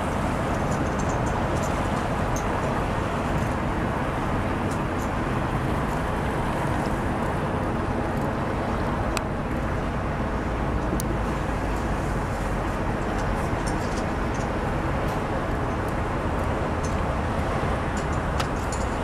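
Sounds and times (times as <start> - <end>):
distant road traffic: 0.0 - 19.0.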